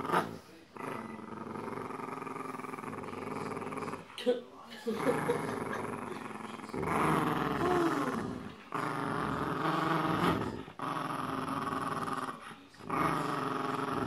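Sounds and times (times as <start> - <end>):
dog growling: 0.0 - 4.2, 4.9 - 14.0.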